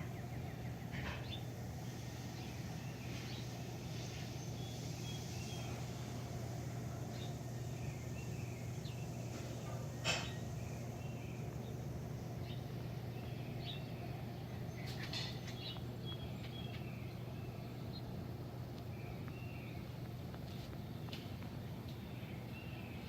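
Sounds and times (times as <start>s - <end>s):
birds chirping: 0.0s - 23.0s
steady low hum: 0.0s - 23.0s.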